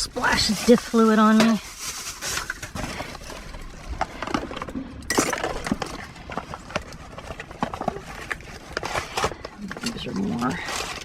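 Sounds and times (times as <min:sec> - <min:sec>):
rustling scrape: 0:00.0 - 0:04.8, 0:05.6 - 0:11.0.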